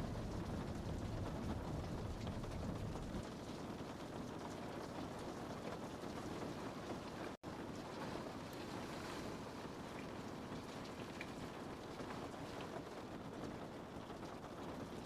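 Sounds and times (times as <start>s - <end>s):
rain on a window pane: 0.0s - 15.0s.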